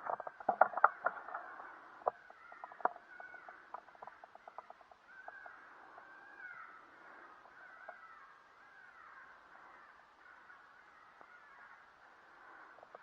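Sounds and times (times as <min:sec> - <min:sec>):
faint animal calls: 0:00.0 - 0:13.0.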